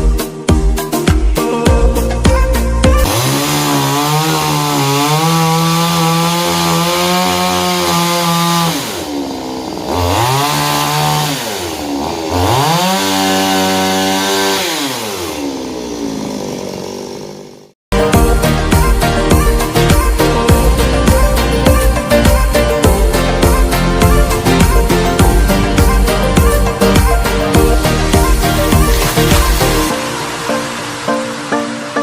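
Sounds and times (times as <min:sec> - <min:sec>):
chainsaw cutting wood: 0:02.9 - 0:31.4.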